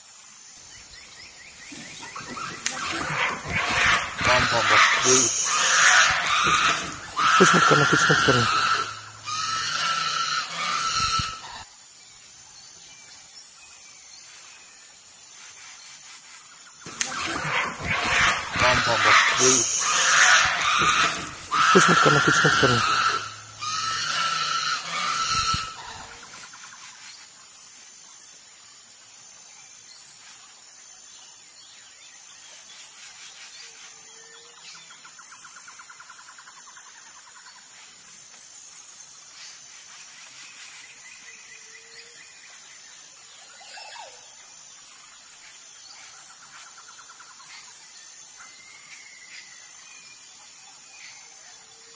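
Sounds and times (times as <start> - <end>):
insects chirring: 0.0 - 51.9
bird calls: 0.6 - 11.7, 12.7 - 28.4, 31.3 - 51.9.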